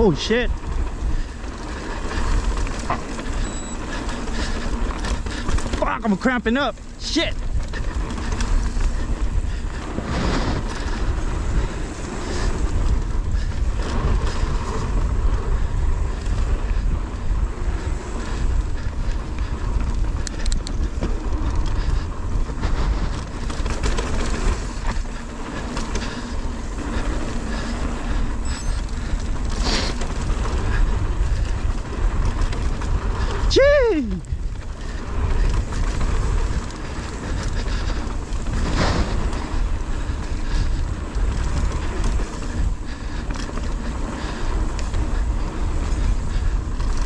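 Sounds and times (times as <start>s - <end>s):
bike clattering over bumps: 0.0s - 47.0s
bike tyres on dirt: 0.0s - 47.0s.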